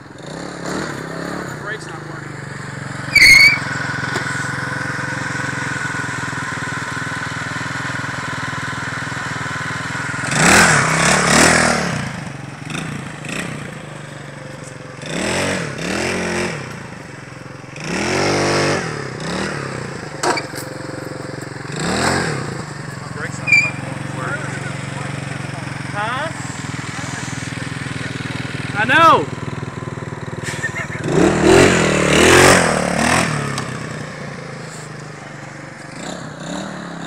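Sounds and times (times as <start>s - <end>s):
scooter engine running and revving: 0.0s - 37.0s.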